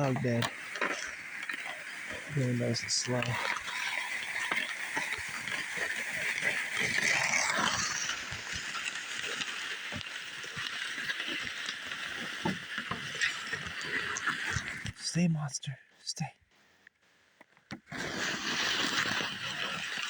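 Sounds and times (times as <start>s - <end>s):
sled scraping along ground: 0.0s - 15.2s, 17.9s - 20.0s.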